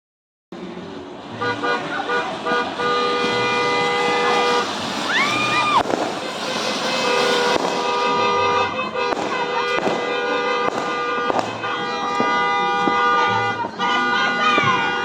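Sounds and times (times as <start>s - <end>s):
horns tooting: 0.8s - 15.0s.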